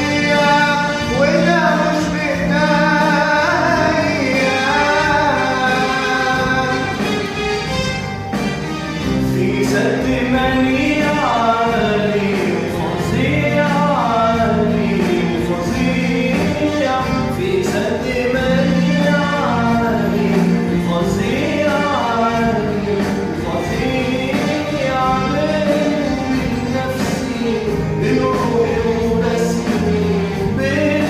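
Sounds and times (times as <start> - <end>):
men singing: 0.0 - 7.5, 9.2 - 31.0
sustained musical accompaniment: 0.0 - 31.0.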